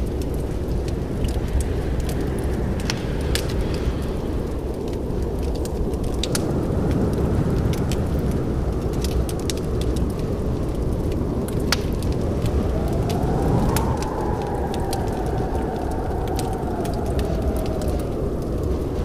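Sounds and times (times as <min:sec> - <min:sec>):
fire crackling: 0:00.0 - 0:19.0
pops and snaps of fire: 0:00.0 - 0:19.0.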